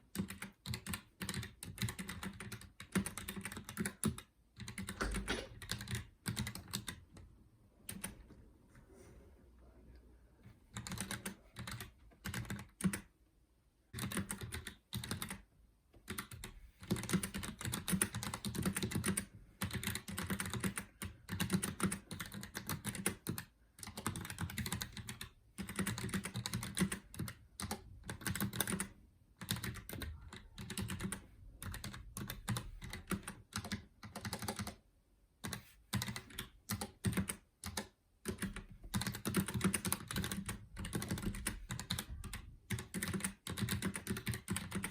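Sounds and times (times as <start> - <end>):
mechanical keyboard typing: 0.0 - 7.2, 7.9 - 8.2, 10.7 - 13.1, 14.0 - 15.4, 16.0 - 34.8, 35.4 - 44.9.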